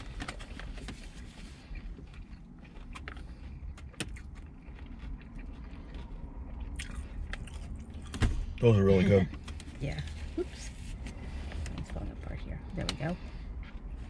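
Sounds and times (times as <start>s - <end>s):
car cabin low rumble: 0.0s - 14.0s.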